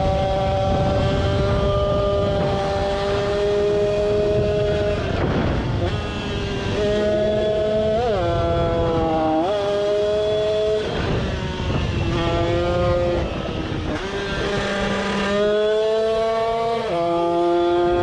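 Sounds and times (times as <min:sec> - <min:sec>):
two-stroke engine at high revs: 0:00.0 - 0:18.0.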